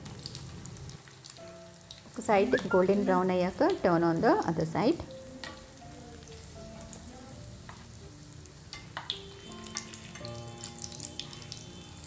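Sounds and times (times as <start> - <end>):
patties sizzling in a pan: 0.0 - 12.0.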